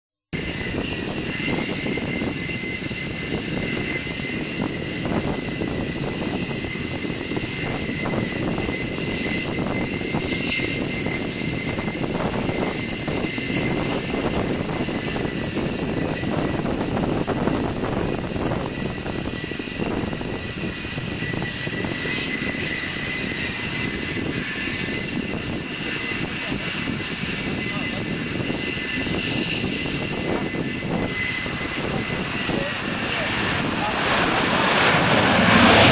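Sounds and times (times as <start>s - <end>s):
jet engines rumbling and whining: 0.4s - 35.9s.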